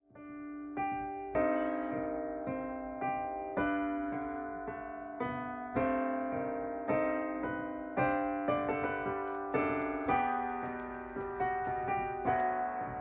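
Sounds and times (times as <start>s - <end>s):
electronic keyboard piano chords: 0.1s - 13.0s.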